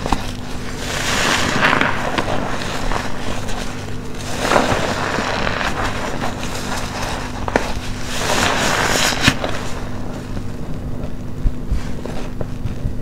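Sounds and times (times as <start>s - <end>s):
soapy sponge squelching: 0.0s - 11.1s.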